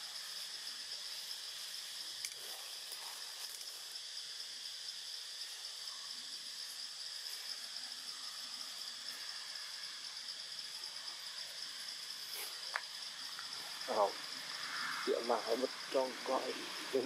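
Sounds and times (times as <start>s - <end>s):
high-pitched insect buzz: 0.0s - 17.0s.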